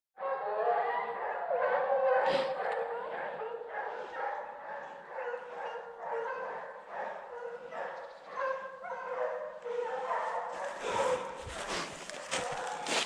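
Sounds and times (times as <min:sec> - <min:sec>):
hounds baying: 0:00.2 - 0:13.0.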